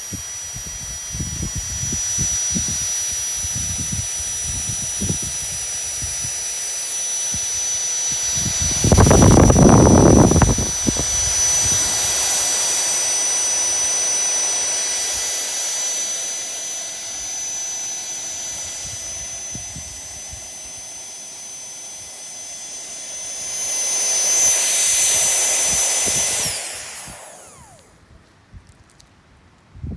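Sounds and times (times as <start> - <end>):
electric air pump whining: 0.0 - 28.0.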